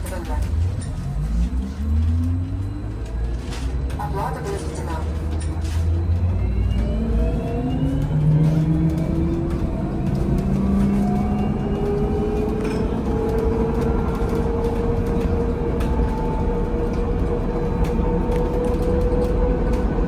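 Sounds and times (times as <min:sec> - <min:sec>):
electric traction drive whine: 0:00.0 - 0:20.0
road and cabin rumble: 0:00.0 - 0:20.0.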